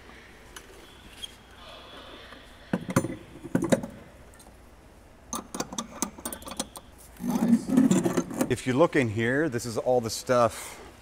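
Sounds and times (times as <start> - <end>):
hangar room noise: 0.0 - 11.0.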